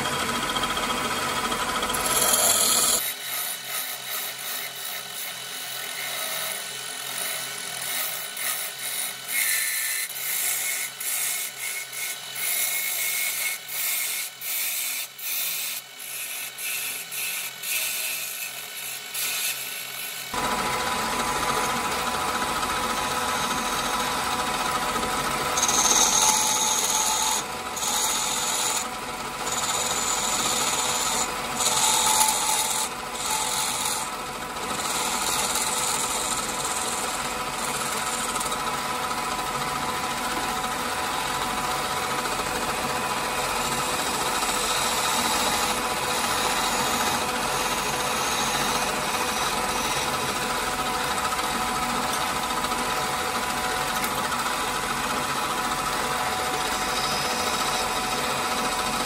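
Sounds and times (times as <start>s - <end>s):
wood lathe cutting: 0.0s - 59.0s.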